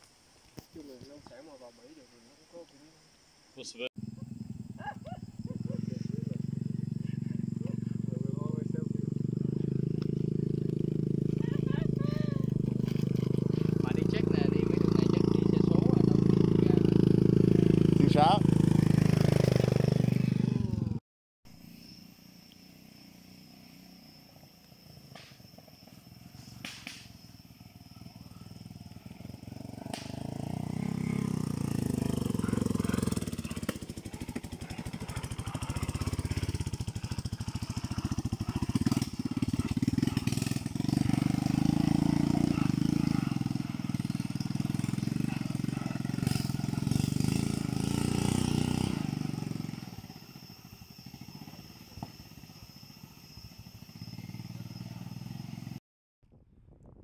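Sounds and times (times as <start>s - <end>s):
motorbike engines: 3.6s - 21.0s, 22.1s - 55.8s.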